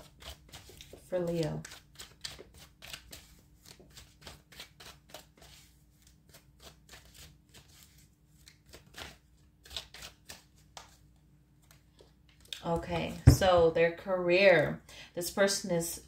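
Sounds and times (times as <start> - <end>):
cards being shuffled: 0.0 - 13.3.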